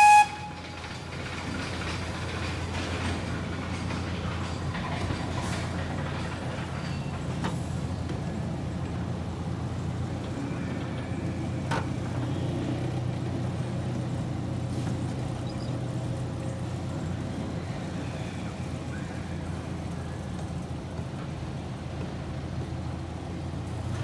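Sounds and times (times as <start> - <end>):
train low drone: 0.0 - 24.0.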